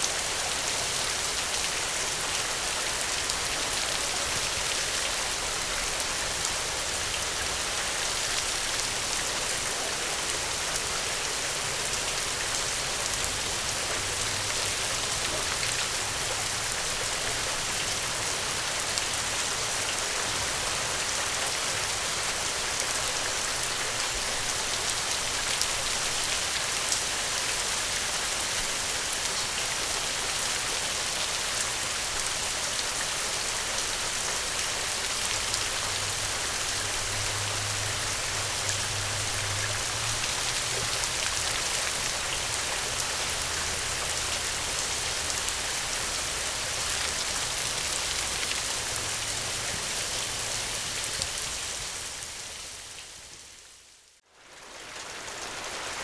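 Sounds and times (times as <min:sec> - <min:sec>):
gentle rain hiss: 0:00.0 - 0:56.0.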